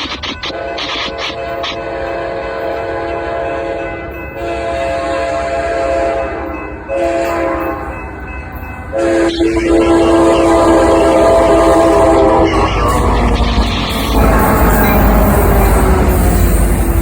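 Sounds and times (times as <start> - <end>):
train rumble: 0.0 - 17.0
locomotive air horn blasts: 1.4 - 7.8, 9.0 - 16.8.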